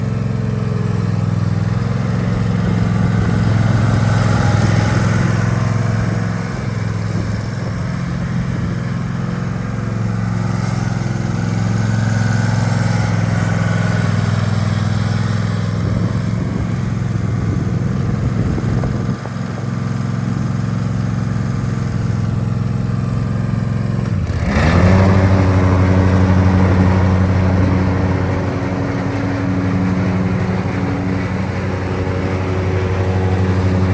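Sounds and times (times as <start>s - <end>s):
mower engine running: 0.0s - 33.9s.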